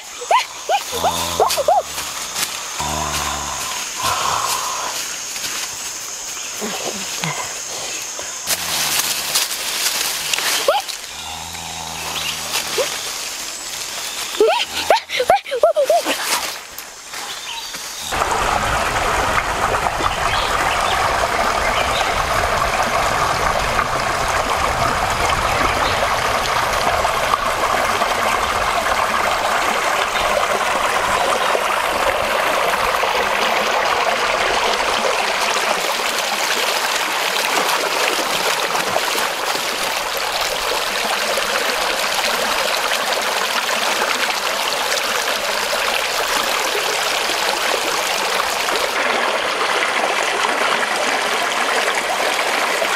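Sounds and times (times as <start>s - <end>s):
stream running over rocks: 0.0s - 52.9s.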